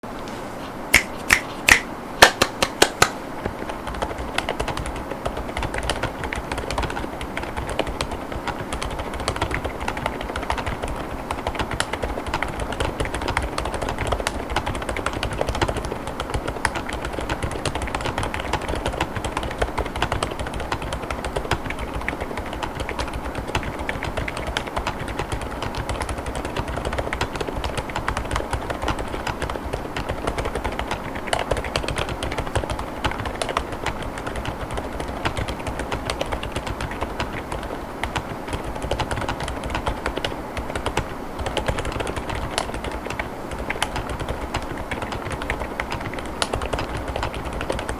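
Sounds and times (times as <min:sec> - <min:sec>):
fast typing on keyboard: 0:02.2 - 0:47.9.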